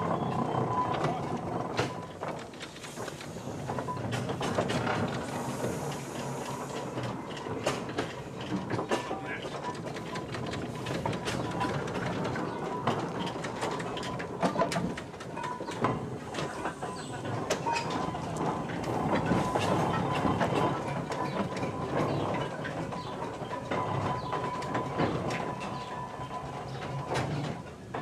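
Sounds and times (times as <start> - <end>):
iron wheels rolling on tarmac: 0.0 - 28.0
steam traction engine clanking: 0.0 - 28.0.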